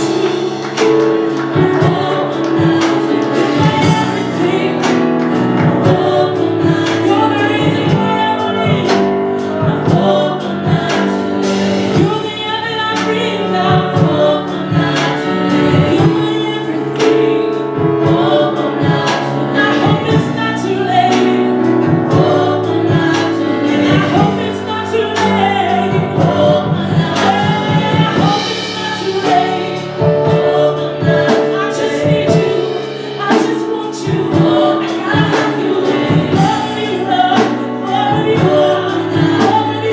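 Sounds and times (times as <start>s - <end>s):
gospel choir singing: 0.0s - 39.9s
live band playing: 0.0s - 39.9s.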